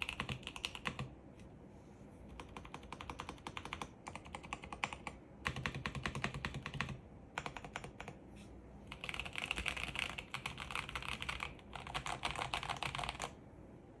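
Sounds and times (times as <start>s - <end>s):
mechanical keyboard typing: 0.0s - 1.1s, 2.3s - 8.2s, 8.9s - 13.4s.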